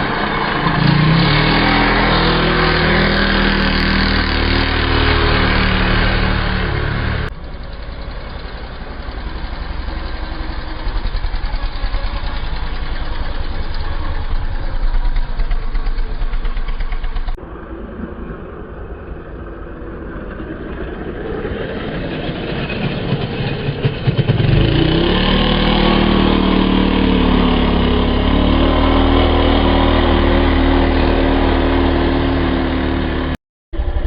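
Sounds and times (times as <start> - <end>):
dirt bike engine running: 0.0 - 17.4, 23.9 - 34.0.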